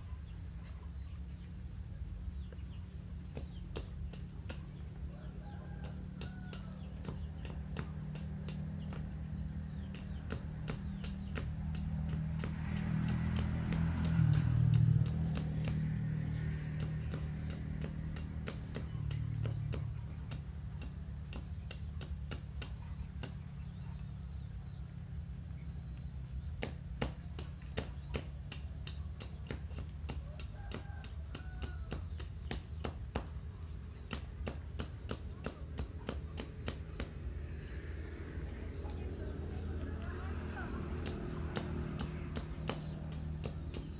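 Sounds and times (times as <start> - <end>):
blade cutting bamboo taps: 2.4 - 23.7, 25.9 - 37.8, 40.4 - 43.9.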